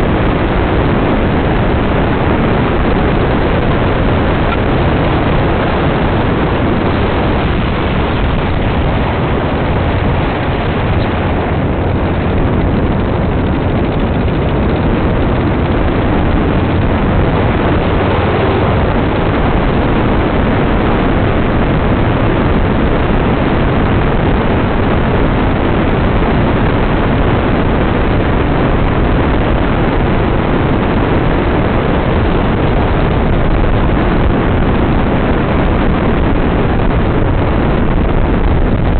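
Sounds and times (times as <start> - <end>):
dune buggy engine: 0.0 - 38.9
loud rushing noise: 0.0 - 38.9.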